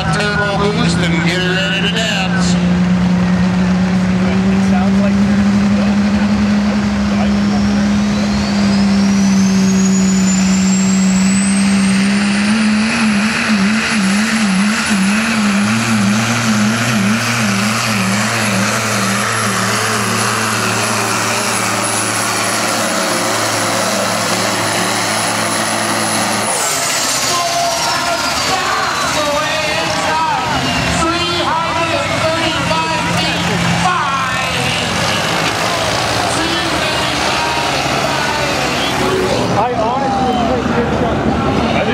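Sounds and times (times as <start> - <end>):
diesel truck engine under load: 0.0 - 41.9
turbo whine: 2.9 - 40.6.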